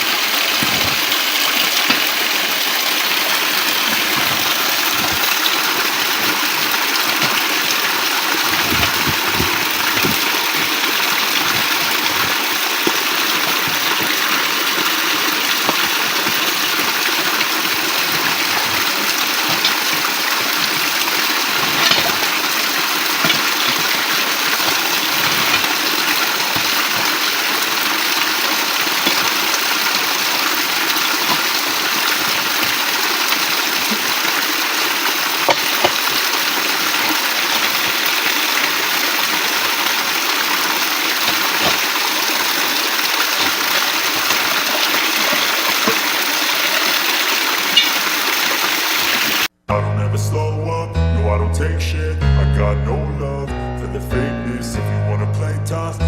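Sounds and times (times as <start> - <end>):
rushing water: 0.0 - 49.5.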